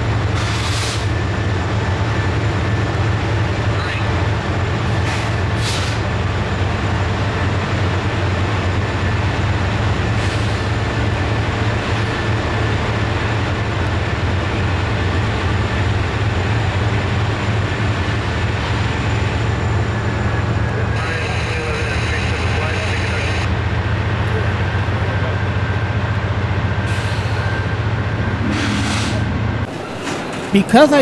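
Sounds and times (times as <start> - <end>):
freight train rumbling: 0.0 - 31.0.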